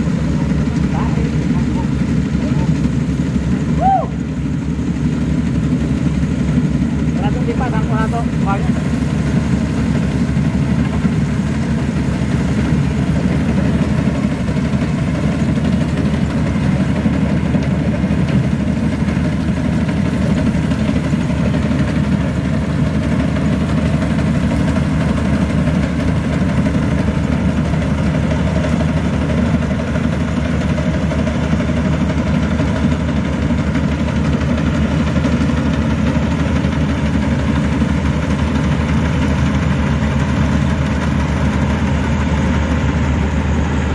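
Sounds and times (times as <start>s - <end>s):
diesel engine running steadily: 0.0s - 43.9s.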